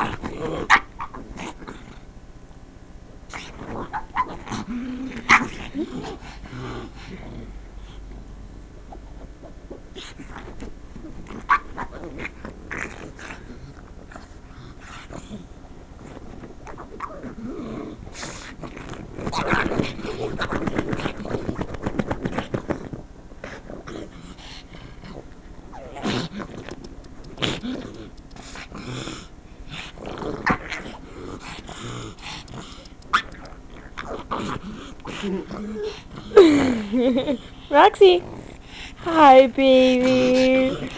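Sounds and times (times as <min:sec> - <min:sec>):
dog growling and grumbling: 0:00.0 - 0:02.1, 0:03.3 - 0:08.2, 0:08.8 - 0:40.9.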